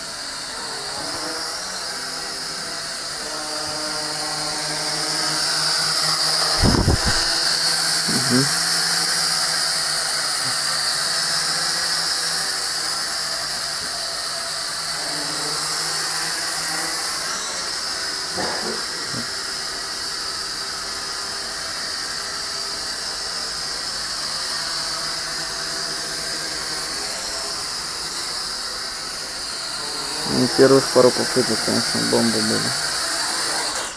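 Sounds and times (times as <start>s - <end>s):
quadcopter motors whining: 0.0s - 33.9s.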